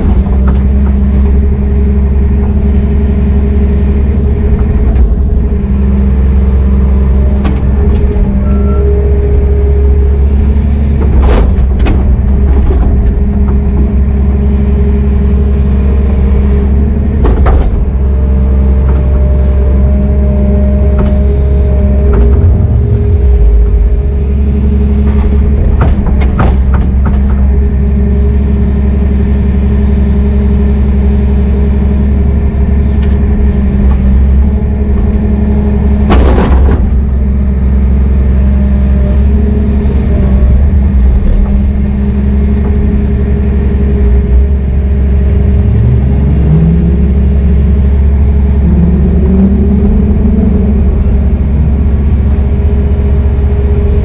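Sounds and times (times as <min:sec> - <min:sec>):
diesel engine rumbling and revving: 0:00.0 - 0:54.0.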